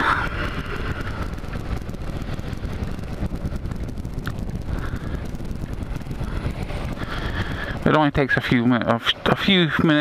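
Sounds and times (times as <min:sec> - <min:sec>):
motorcycle engine running: 0:00.0 - 0:10.0
wind rushing over microphone: 0:00.0 - 0:10.0.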